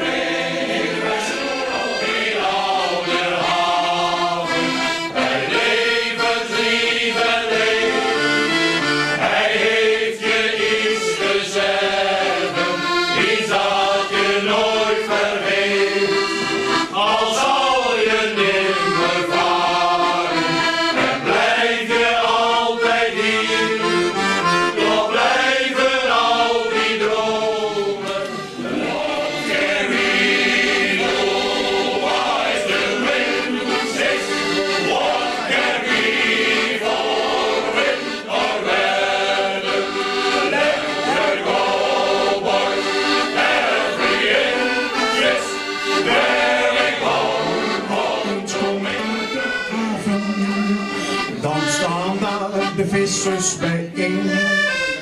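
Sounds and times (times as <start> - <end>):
accordion chords: 0.0 - 55.0
men's choir singing: 0.0 - 55.0.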